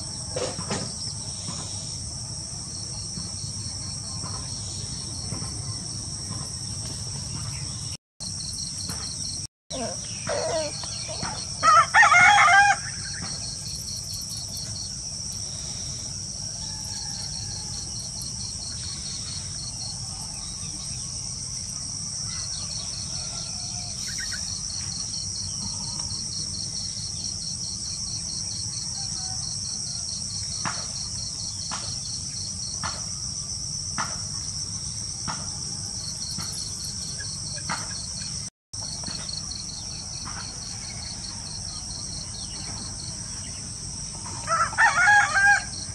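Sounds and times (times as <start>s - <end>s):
cricket chorus trilling: 0.0s - 45.9s.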